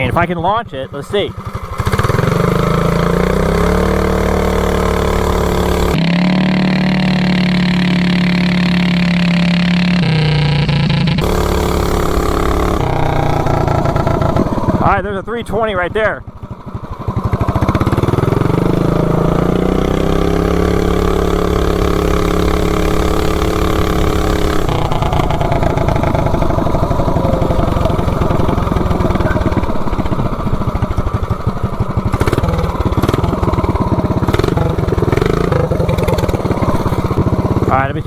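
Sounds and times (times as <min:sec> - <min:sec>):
minibike engine revving: 0:00.0 - 0:38.0.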